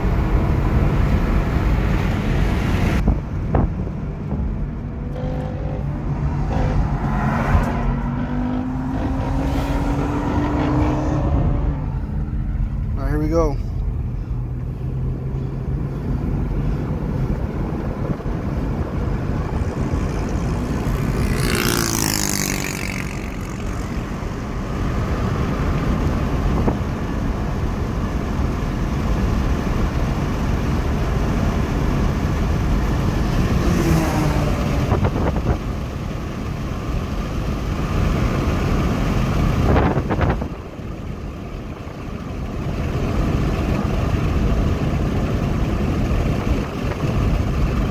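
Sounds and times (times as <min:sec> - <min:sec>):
car engine and road noise: 0:00.0 - 0:47.9.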